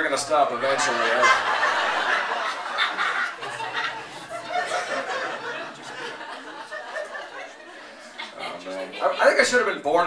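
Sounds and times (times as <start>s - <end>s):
audience laughing: 0.5s - 9.4s.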